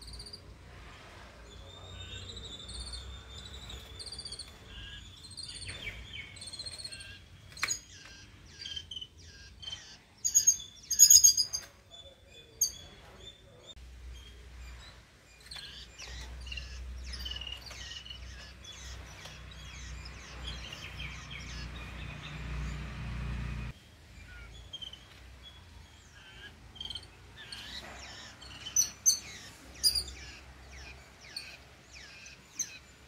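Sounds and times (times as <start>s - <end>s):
birds chirping rapidly: 0.0s - 33.0s.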